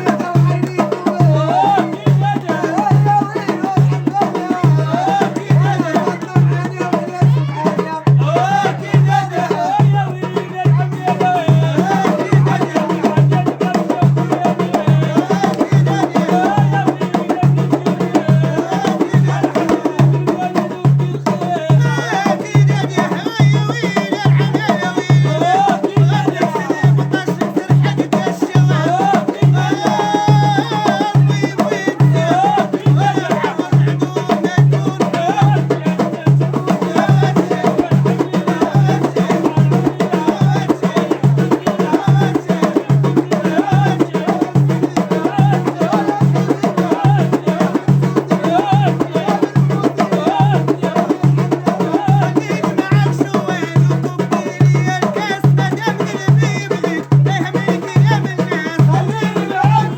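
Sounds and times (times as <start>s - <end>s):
low drum beat: 0.0s - 59.9s.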